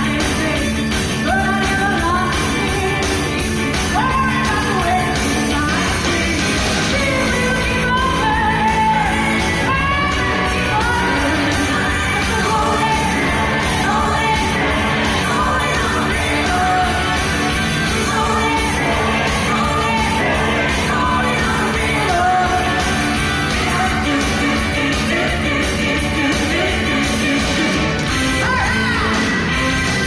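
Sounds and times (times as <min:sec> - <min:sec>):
choir singing rock song: 0:00.0 - 0:30.0
rock band playing: 0:00.0 - 0:30.0.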